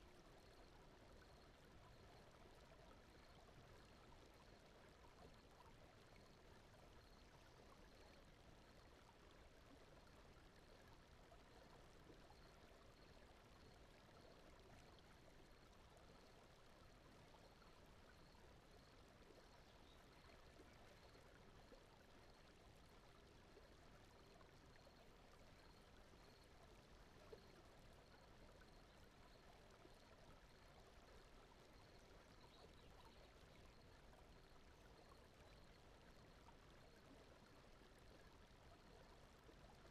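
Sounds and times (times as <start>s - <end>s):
faint brown noise: 0.0s - 39.9s.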